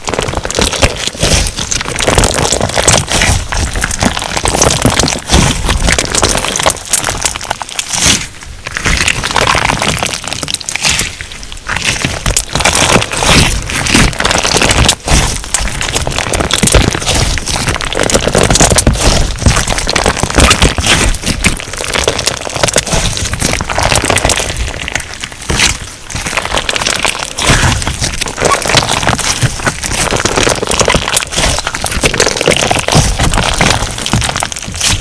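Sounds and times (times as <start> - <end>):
slime crackling and popping: 0.0 - 35.0.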